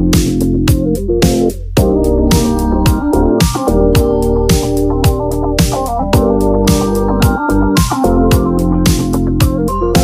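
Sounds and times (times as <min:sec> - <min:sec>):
kick drum: 0:00.0 - 0:10.0
sustained keyboard chords: 0:00.0 - 0:10.0.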